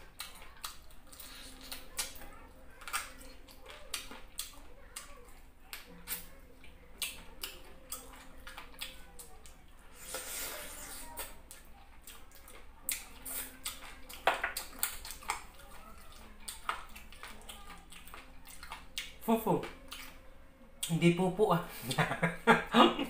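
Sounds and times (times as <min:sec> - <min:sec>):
wet chewing and lip smacks: 0:00.0 - 0:20.2.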